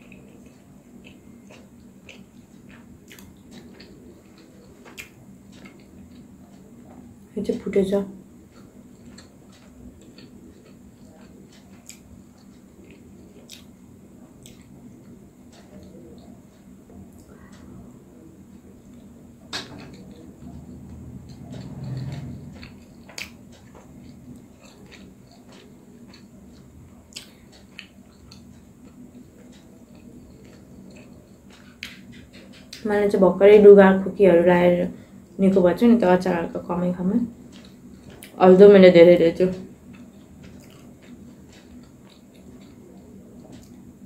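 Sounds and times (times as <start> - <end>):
soft clicks and wet eating sounds: 0.0 - 33.7, 34.5 - 44.0.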